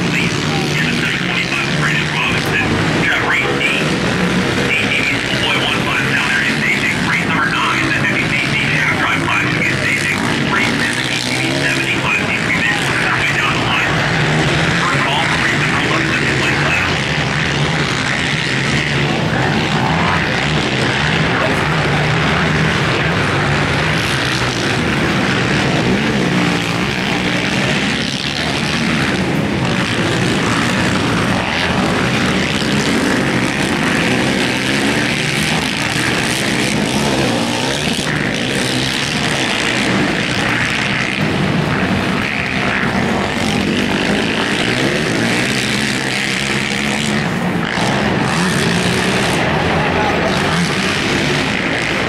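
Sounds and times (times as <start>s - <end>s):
racing quad engines revving: 0.0s - 52.0s.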